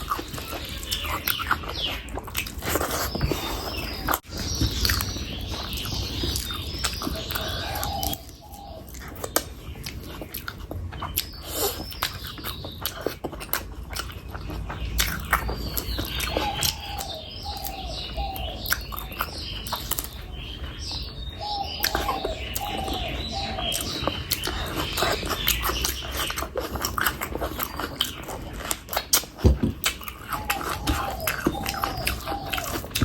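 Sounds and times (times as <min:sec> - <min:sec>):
chewing and wet mouth clicks: 0:00.0 - 0:20.7, 0:21.5 - 0:33.0
bird chirping: 0:00.0 - 0:33.0.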